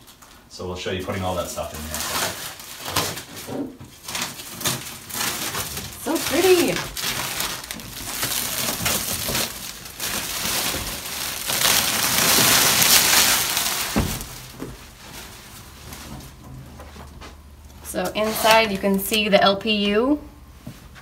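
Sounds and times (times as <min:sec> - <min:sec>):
plastic wrapping crinkling: 0:00.0 - 0:20.2.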